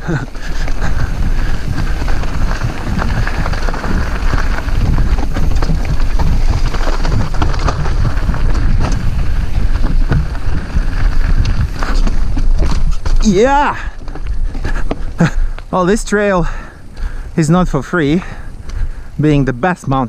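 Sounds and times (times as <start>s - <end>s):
bike rattling and knocking: 0.0s - 19.0s
wind buffeting microphone: 0.0s - 19.7s
tyres crunching over gravel: 0.0s - 20.0s.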